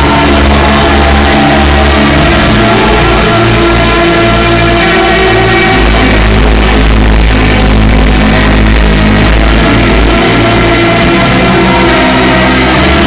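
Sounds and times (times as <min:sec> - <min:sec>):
trance music over club speakers: 0:00.0 - 0:13.0.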